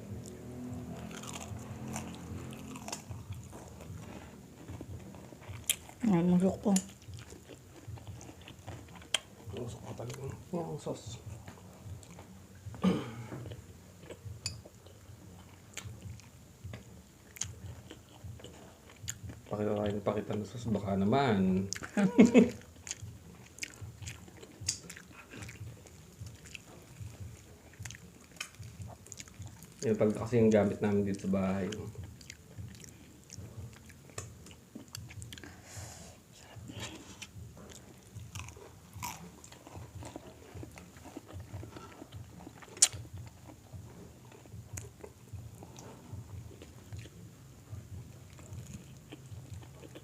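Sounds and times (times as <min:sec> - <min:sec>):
person chewing crisp food: 0:00.2 - 0:35.7, 0:36.5 - 0:50.0.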